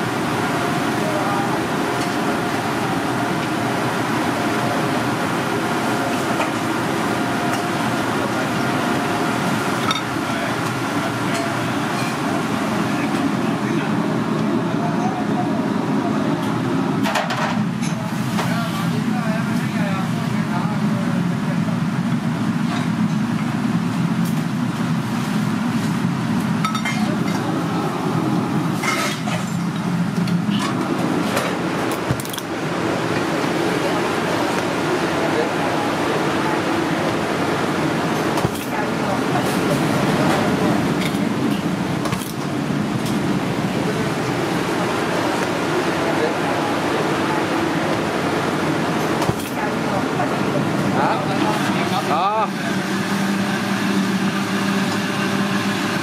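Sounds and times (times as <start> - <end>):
fan-like mechanical rush: 0.0 - 56.0
low machine hum: 0.0 - 56.0.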